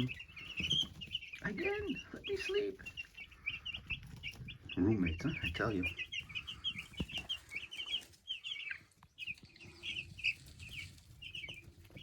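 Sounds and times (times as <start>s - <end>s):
chickens chirping: 0.0s - 12.0s.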